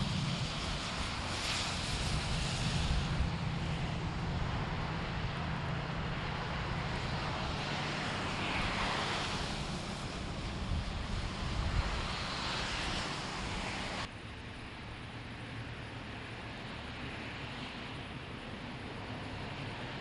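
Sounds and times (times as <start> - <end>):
low engine hum: 0.0 - 20.0
vehicles passing: 0.0 - 20.0.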